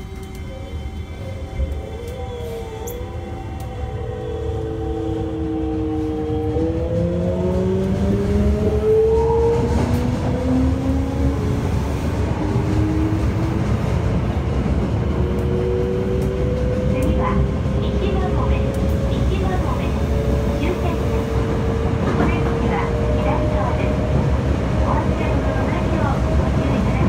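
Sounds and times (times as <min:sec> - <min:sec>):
rail rumble: 0:00.0 - 0:27.0.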